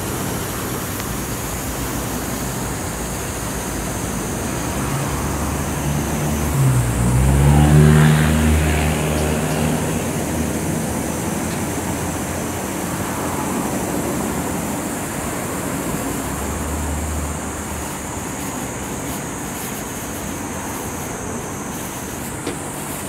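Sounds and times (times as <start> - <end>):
car wash machine hum: 0.0 - 23.0
water spraying over car: 0.0 - 23.0.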